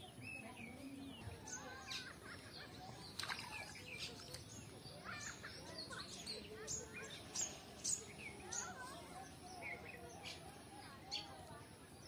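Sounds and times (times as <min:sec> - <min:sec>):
faint outdoor background noise: 0:00.0 - 0:12.0
small birds chirping: 0:00.0 - 0:12.0.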